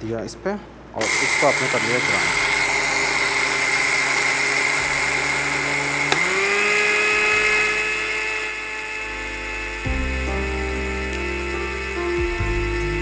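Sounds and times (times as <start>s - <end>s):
blender click: 1.0s - 12.2s
blender motor whining: 1.0s - 13.0s.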